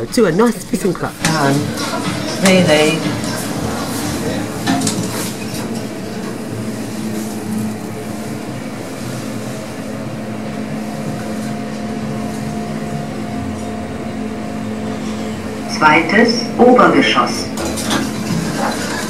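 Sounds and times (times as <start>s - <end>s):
lift drive humming: 0.0s - 19.0s.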